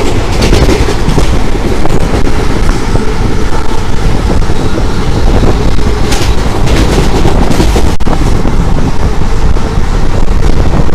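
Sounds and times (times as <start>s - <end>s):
train wheels rumbling on track: 0.0s - 10.9s
wind buffeting microphone: 0.0s - 10.9s.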